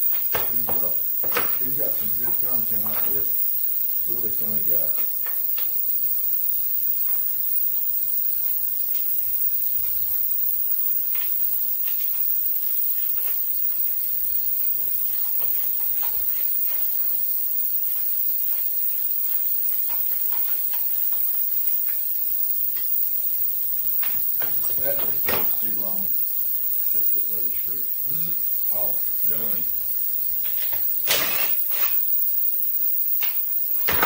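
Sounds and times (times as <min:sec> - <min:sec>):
high-pitched hiss: 0:00.0 - 0:34.0.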